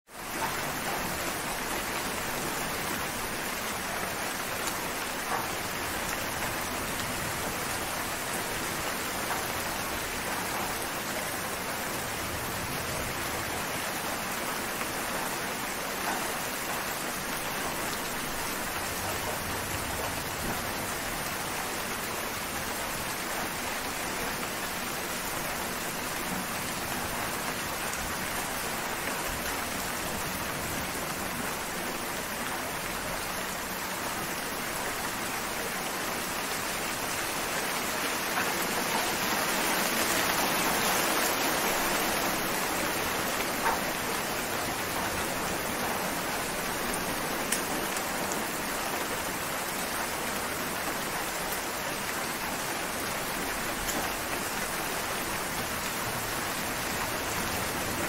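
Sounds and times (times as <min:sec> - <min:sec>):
steady rain hiss: 0:00.1 - 0:58.0.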